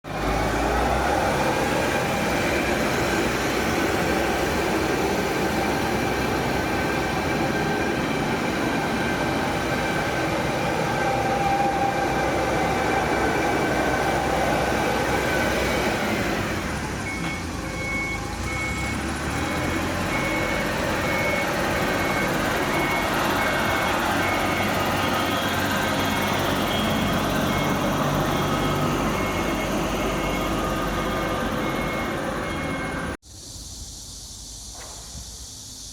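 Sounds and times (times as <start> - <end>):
forklift engine running: 0.1 - 33.2
high reversing alarm beeping: 1.7 - 33.2.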